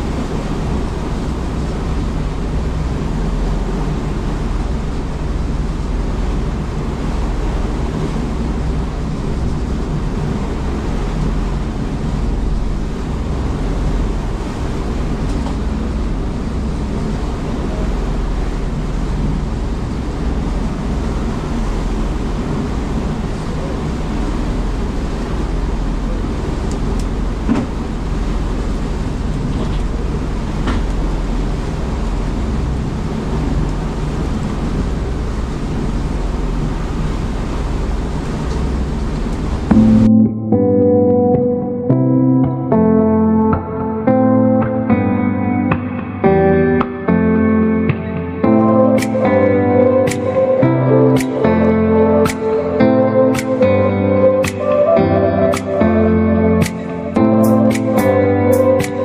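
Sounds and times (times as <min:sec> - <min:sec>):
boat engine rumbling: 0:00.0 - 0:57.4.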